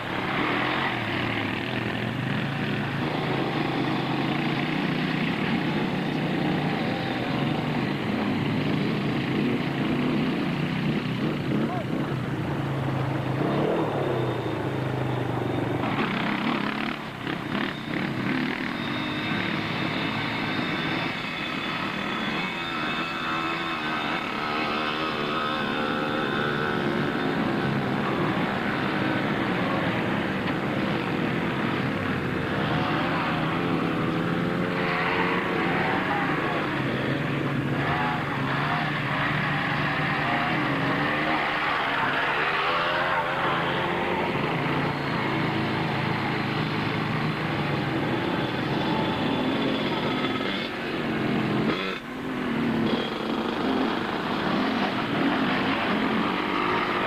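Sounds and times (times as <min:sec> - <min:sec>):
quad engines revving: 0:00.0 - 0:57.0.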